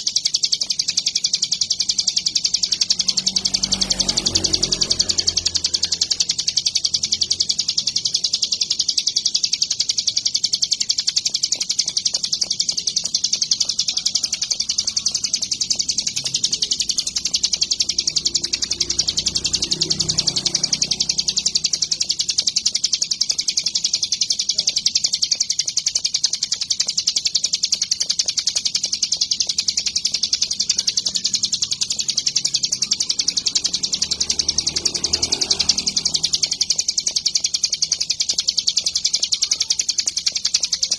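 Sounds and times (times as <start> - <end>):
songbird chattering song: 0.0 - 40.9.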